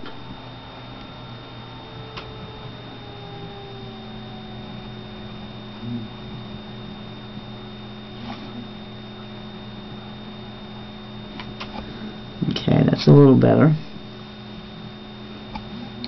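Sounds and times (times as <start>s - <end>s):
faint high whine: 0.0s - 16.0s
low electrical hum: 0.0s - 16.0s.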